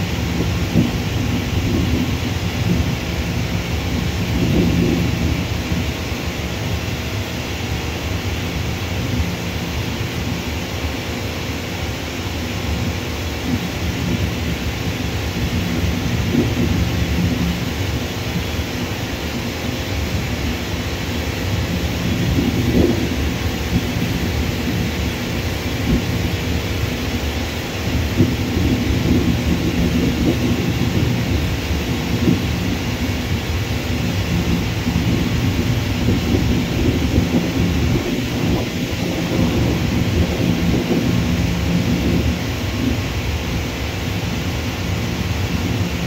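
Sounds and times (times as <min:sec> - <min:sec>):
distant jet engines rumbling: 0:00.0 - 0:46.0
hiss: 0:00.0 - 0:46.0.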